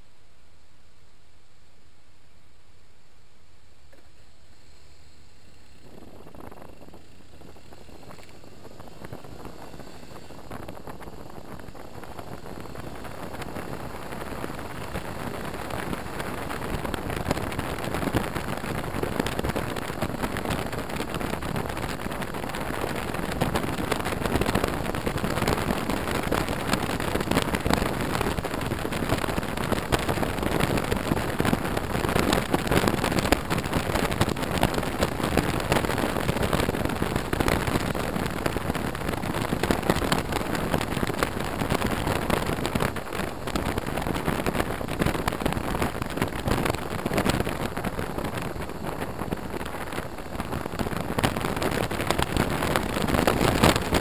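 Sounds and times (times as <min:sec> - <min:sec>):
wind rushing over microphone: 0:04.4 - 0:54.0.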